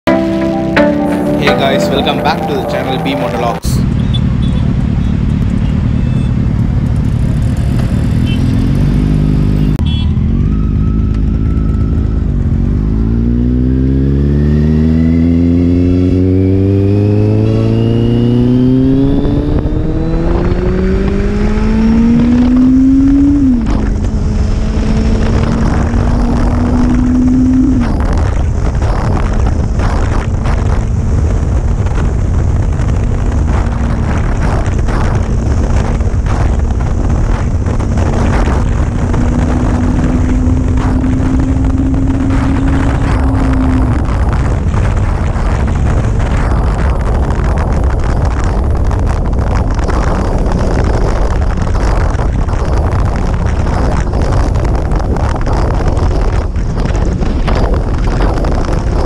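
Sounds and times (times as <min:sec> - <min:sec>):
motorcycle engine accelerating: 0:03.8 - 0:59.0
wind buffeting microphone: 0:10.8 - 0:59.0.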